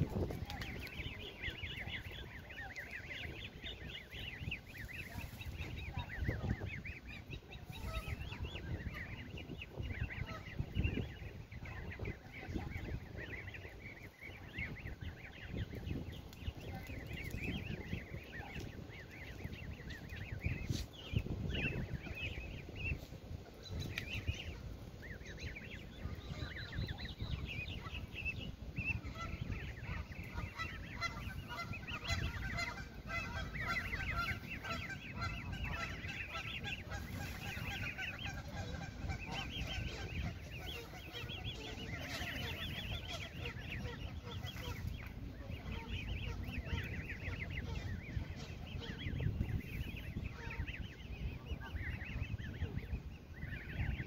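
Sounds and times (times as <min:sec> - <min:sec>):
goslings peeping: 0:00.0 - 0:54.0.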